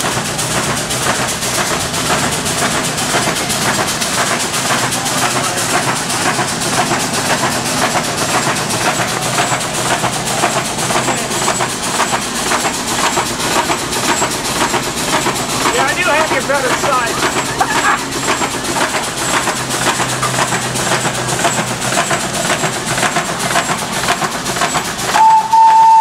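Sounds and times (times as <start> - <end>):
exhaust steam hiss: 0.0 - 26.0
steam pump chuffing: 0.0 - 26.0.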